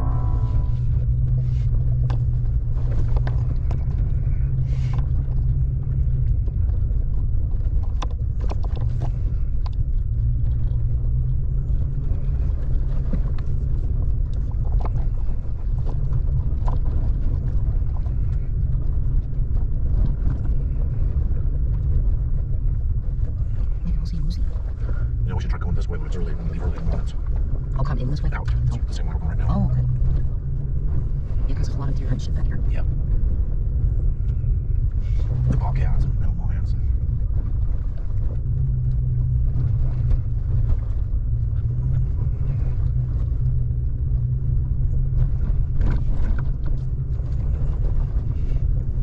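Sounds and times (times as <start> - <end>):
vehicle engine and road rumble: 0.0 - 49.0.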